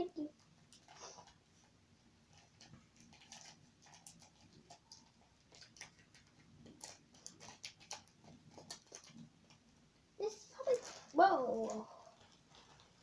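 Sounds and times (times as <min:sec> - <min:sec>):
small clicks and rustles from hands: 0:00.0 - 0:13.0.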